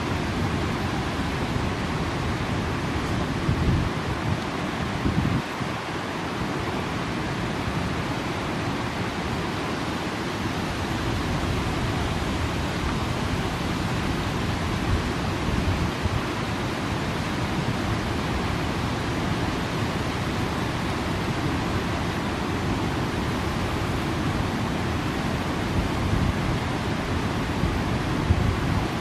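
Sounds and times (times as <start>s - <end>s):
wind rumbling on microphone: 0.0s - 8.3s, 10.3s - 29.0s
river rushing: 0.0s - 29.0s.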